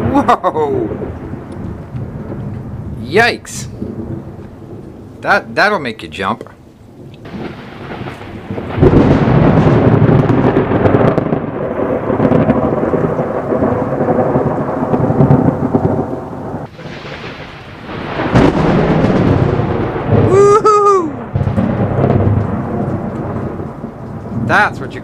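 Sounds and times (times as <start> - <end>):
thunder crack and rumble: 0.0 - 5.4, 6.5 - 25.0
rain falling: 0.0 - 25.0.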